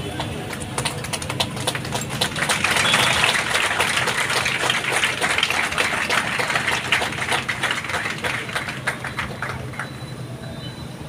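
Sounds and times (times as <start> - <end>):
crowd applause: 0.0 - 10.2.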